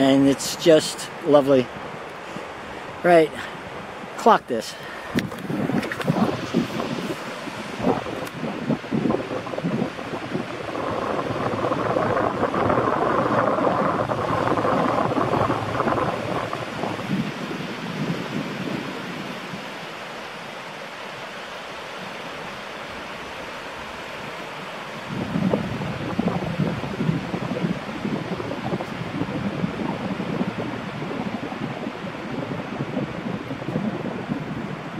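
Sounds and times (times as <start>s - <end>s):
small waves washing onto beach: 0.0s - 34.9s.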